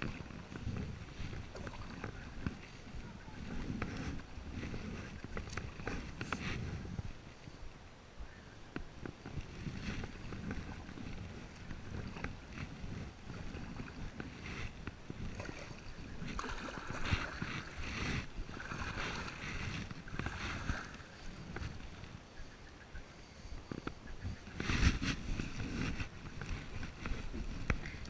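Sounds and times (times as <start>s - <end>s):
paddle swishing through water: 0.0s - 7.7s, 8.8s - 28.0s
wind rumble on microphone: 0.0s - 28.0s.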